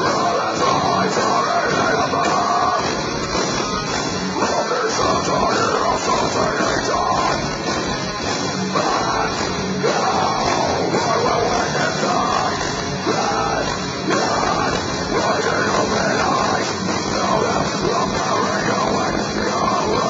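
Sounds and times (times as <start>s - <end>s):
distorted electric guitars: 0.0s - 20.0s
drums: 0.0s - 20.0s.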